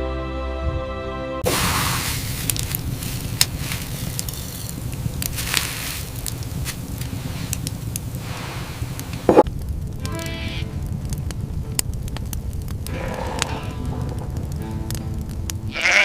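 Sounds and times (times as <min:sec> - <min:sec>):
steady rushing rumble: 0:01.4 - 0:15.9
crackles and pops: 0:01.4 - 0:16.0.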